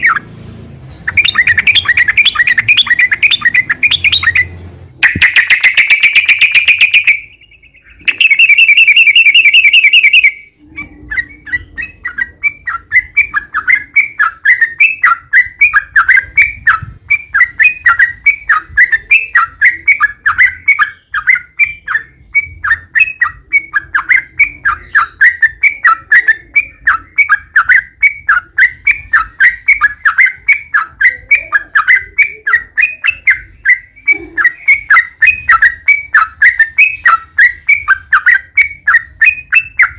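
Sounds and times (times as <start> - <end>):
bulbul singing rapid trills: 0.9 - 39.9.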